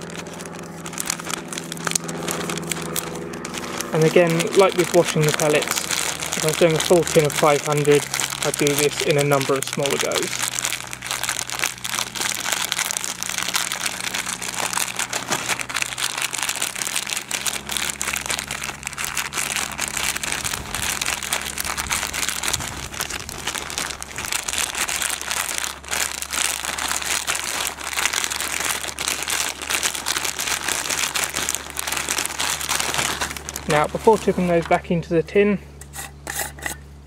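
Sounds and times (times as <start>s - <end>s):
pellets shifting against each other: 0.0s - 34.8s
plastic bag crinkling: 0.0s - 35.0s.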